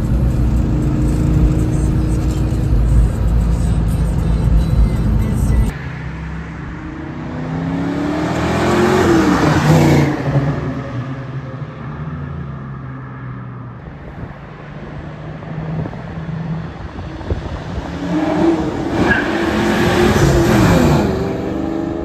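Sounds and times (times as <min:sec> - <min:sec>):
car engine revving: 0:00.0 - 0:13.2, 0:14.6 - 0:22.0.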